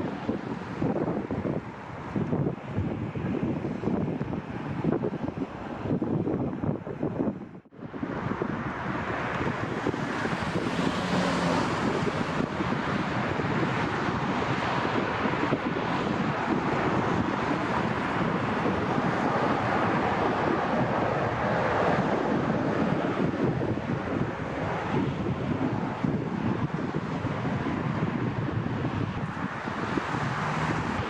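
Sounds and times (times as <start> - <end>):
jet engines roaring: 0.0 - 5.9, 7.8 - 31.0
wind buffeting microphone: 0.0 - 31.0.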